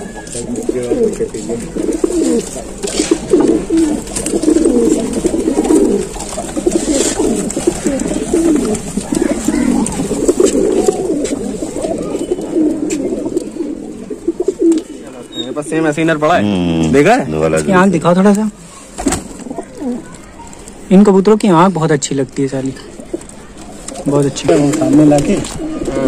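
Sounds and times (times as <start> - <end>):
pigeons cooing: 0.0 - 21.2, 22.3 - 26.0.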